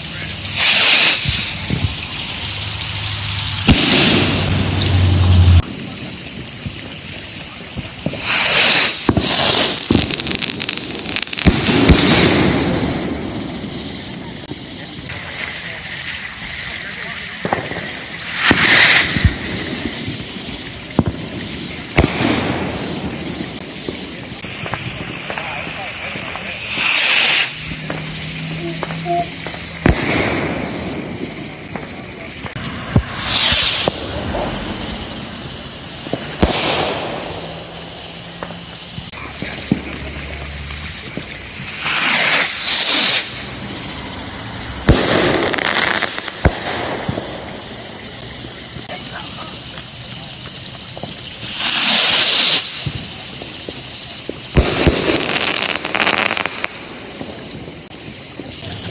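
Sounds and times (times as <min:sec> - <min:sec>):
firework bangs: 0:00.0 - 0:58.9
firework hiss: 0:00.0 - 0:58.9.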